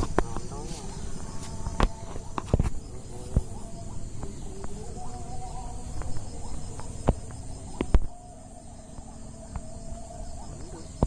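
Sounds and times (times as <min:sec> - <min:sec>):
insect chirring: 0:00.0 - 0:11.0.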